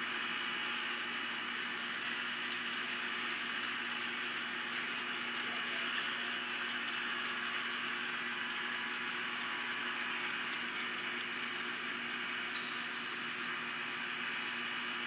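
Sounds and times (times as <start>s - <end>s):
faint hum tones: 0.0s - 15.0s.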